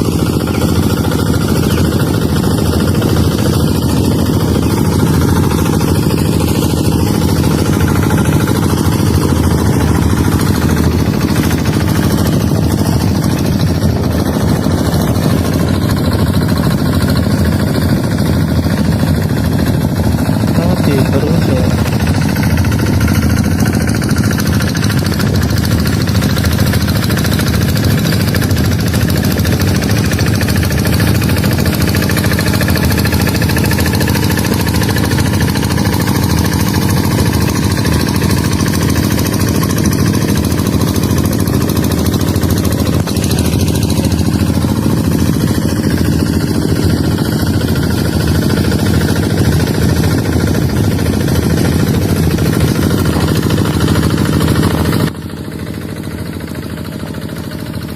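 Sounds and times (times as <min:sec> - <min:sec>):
tractor engine knocking: 0:00.0 - 0:57.9.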